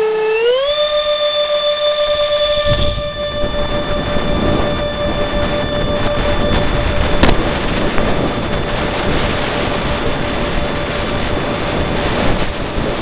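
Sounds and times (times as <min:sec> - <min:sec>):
electric ducted fans whining: 0:00.0 - 0:13.0
low rumble of wind noise: 0:02.0 - 0:13.0.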